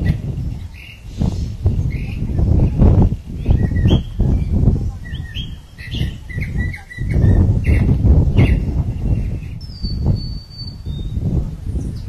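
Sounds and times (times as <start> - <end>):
low rumbling noise: 0.0 - 12.0
small birds chirping: 0.0 - 12.0.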